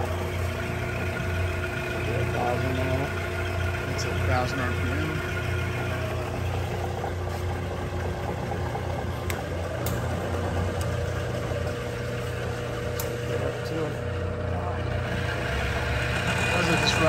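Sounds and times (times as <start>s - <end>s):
drill press motor humming: 0.0s - 17.0s.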